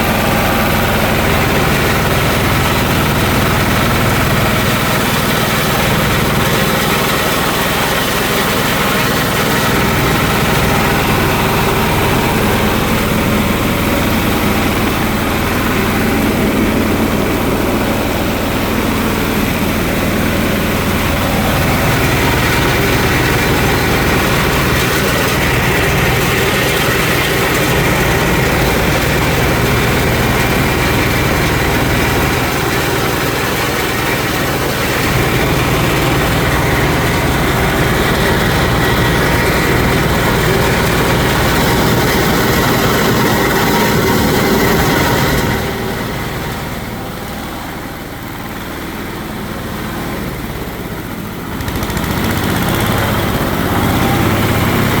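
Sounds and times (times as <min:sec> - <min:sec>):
rice milling machine running: 0:00.0 - 0:55.0.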